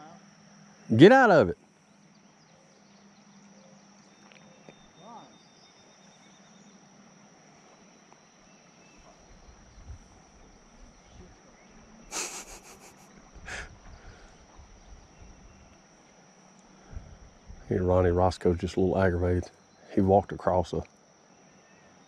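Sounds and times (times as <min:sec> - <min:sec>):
insects singing: 0:00.0 - 0:22.0.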